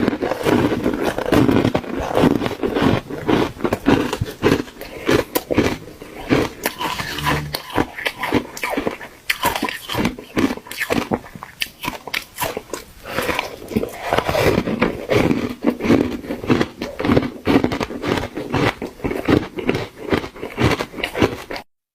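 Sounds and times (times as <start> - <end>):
person chewing ice: 0.0 - 21.7.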